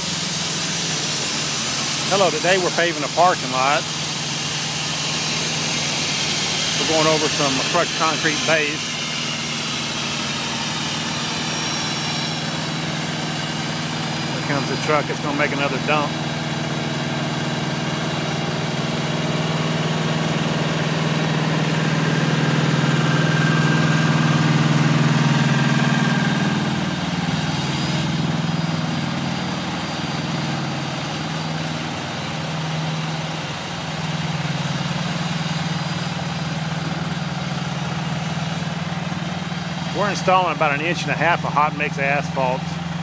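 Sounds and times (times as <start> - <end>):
heavy diesel engines running: 0.0 - 43.0.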